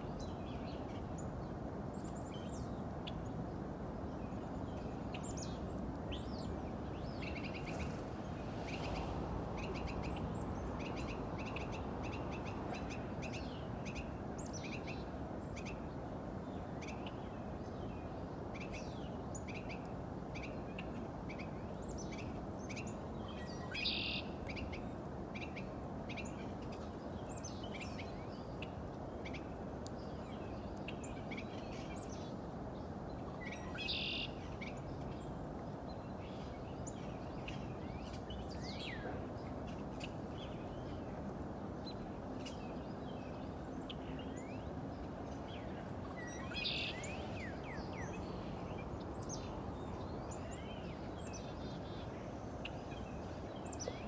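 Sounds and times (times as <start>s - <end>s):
low background noise: 0.0s - 54.0s
small birds chirping: 0.0s - 54.0s.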